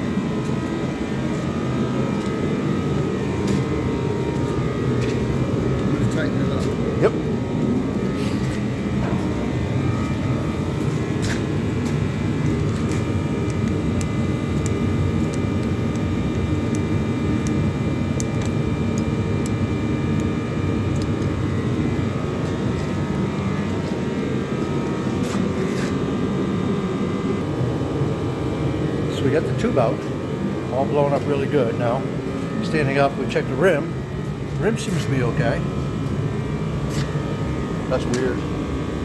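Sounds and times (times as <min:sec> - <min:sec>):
motor droning with faint whine: 0:00.0 - 0:39.0.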